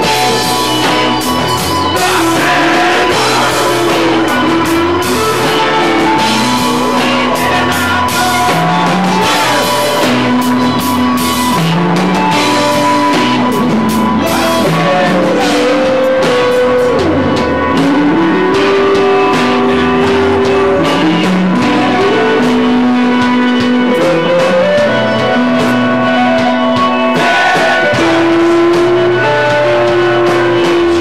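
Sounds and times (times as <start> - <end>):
drums and cymbals: 0.0 - 31.0
electric guitar sustained notes: 0.0 - 31.0.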